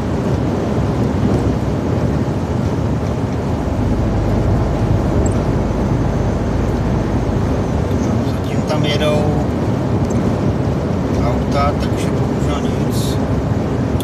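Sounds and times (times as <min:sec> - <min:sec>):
truck engine and road drone: 0:00.0 - 0:14.0.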